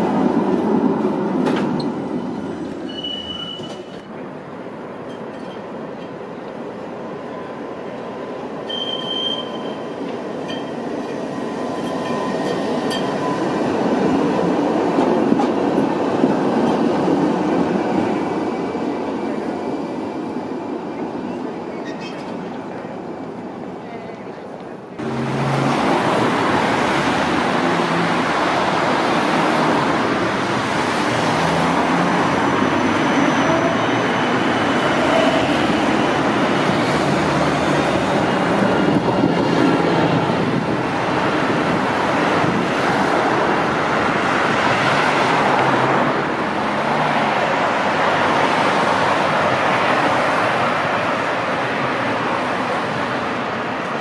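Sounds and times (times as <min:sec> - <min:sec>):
road traffic: 0:00.0 - 0:54.0
tram passing: 0:00.0 - 0:54.0.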